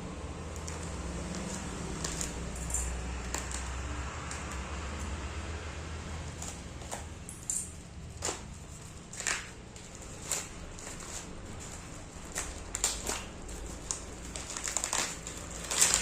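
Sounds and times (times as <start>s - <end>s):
low steady hum: 0.0s - 16.0s
clicks and rustles of packaging: 0.5s - 5.3s, 6.2s - 16.0s.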